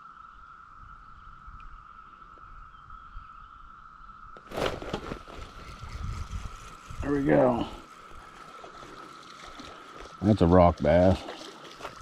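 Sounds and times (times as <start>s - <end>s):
faint outdoor background: 0.0s - 12.0s
steady high-pitched whine: 0.0s - 12.0s.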